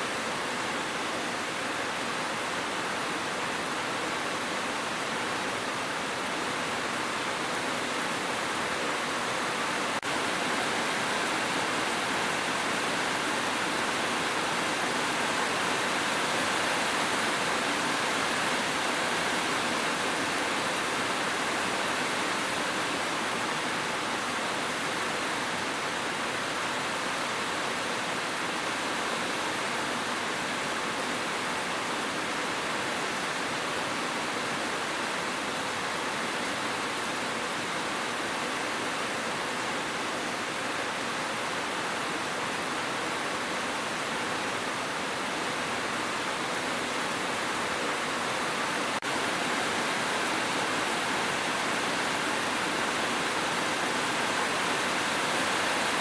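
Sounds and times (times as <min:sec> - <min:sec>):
dense rainfall hissing: 0:00.0 - 0:56.0.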